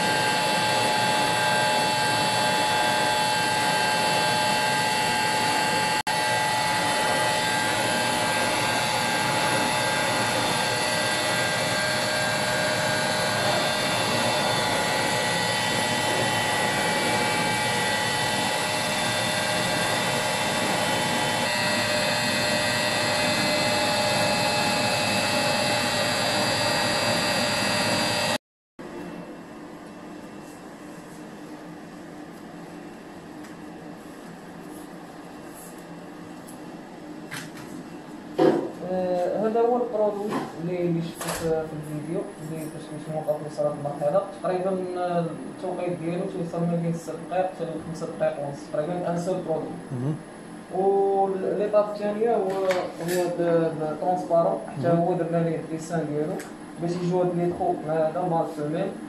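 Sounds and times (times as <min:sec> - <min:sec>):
laser cutter whirring: 0:00.0 - 0:59.0.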